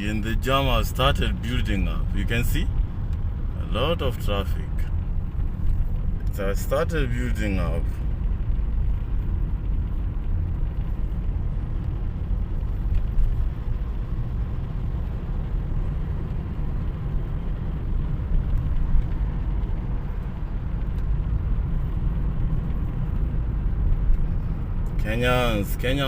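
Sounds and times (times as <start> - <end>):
car engine rumble: 0.0 - 26.0
road noise: 0.0 - 26.0.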